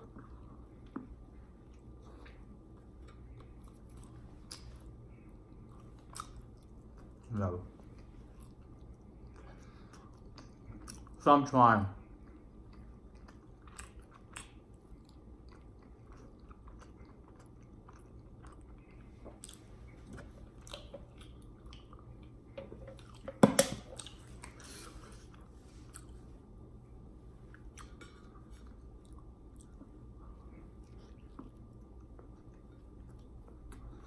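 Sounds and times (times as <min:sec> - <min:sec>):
person chewing and swallowing: 0:00.0 - 0:07.3, 0:07.9 - 0:11.2, 0:12.0 - 0:26.3, 0:27.4 - 0:34.0.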